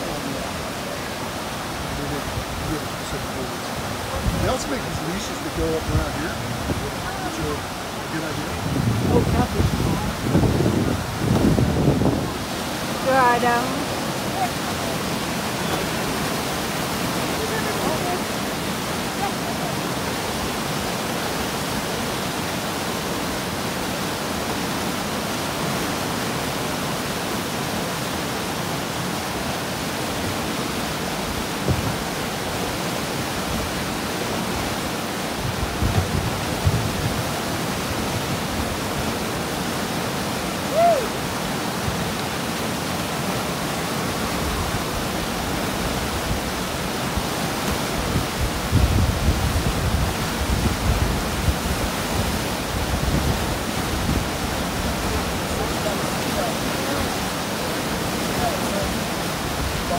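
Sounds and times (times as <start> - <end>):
river whitewater rushing: 0.0 - 59.9.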